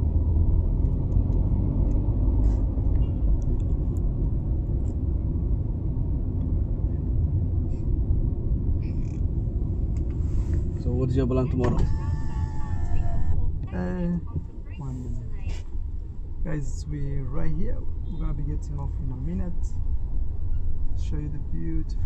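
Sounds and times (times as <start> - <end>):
road rumble inside moving vehicle: 0.0 - 22.0.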